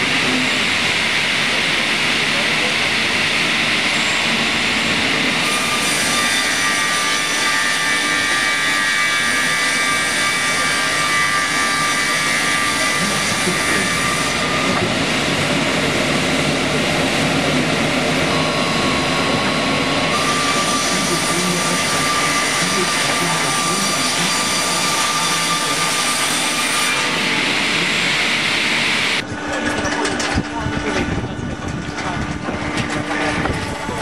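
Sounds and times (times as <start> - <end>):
circular sawmill blades whining: 0.0 - 34.0.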